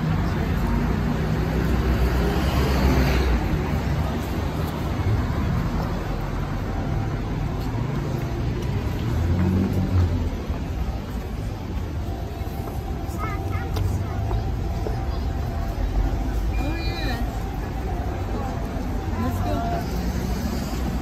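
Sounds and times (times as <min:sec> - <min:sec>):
bus engine rumbling: 0:00.0 - 0:21.0
steady traffic rumble: 0:00.0 - 0:21.0.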